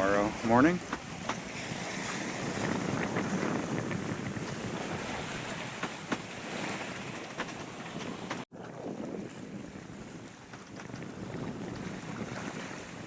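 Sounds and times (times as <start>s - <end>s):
water rushing past hull: 0.0s - 13.0s
wind buffeting microphone: 0.0s - 13.0s.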